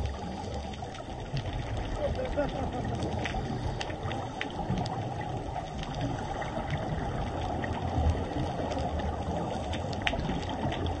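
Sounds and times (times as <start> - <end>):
faint clicks: 0.0 - 11.0
underwater low rumble: 0.0 - 11.0.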